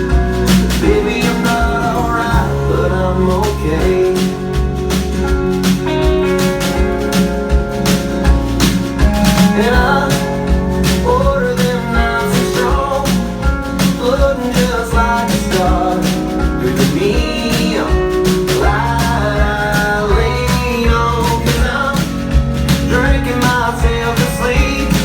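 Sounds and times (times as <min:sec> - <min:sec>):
person singing: 0:00.0 - 0:04.9, 0:09.1 - 0:25.0
country band playing: 0:00.0 - 0:25.0.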